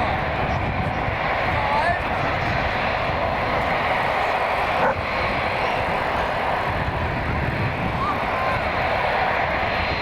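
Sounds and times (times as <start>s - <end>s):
jet airliner passing overhead: 0.0s - 10.0s.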